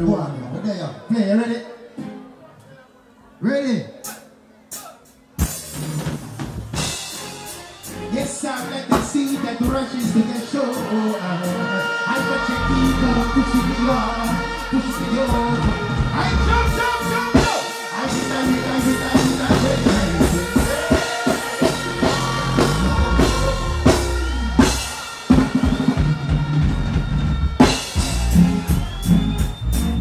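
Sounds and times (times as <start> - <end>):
live reggae band: 0.0 - 30.0.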